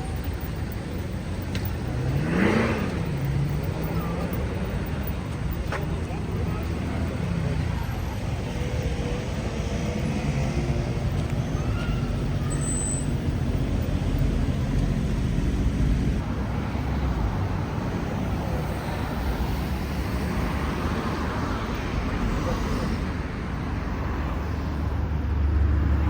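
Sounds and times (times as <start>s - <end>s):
passing cars and buses rumbling: 0.0s - 26.0s.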